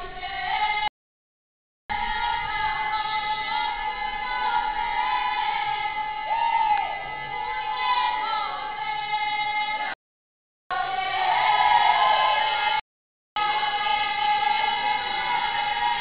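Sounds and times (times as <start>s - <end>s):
vocal group singing: 0.0s - 0.9s, 1.9s - 10.0s, 10.7s - 12.8s, 13.4s - 16.0s.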